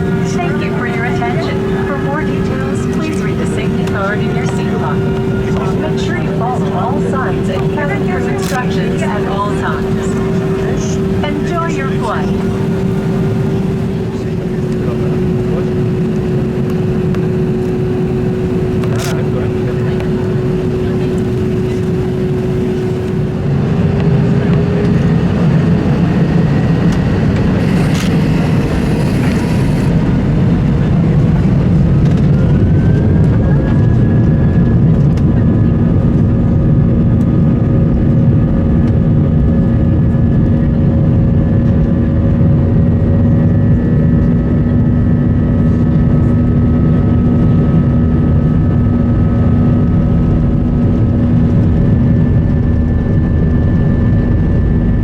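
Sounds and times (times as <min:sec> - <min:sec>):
jet engine whine: 0:00.0 - 0:55.0
loud engine rumble: 0:00.0 - 0:55.0.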